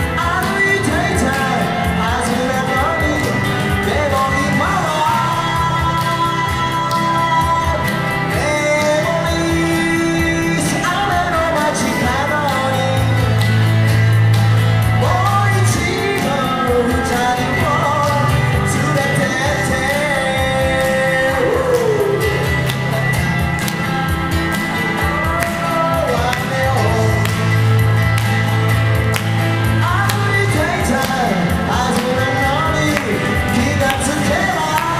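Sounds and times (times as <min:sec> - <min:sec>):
person singing: 0:00.0 - 0:23.8, 0:24.7 - 0:28.2, 0:29.0 - 0:34.9
electric guitar: 0:00.0 - 0:34.9
sustained bass notes: 0:00.0 - 0:34.9.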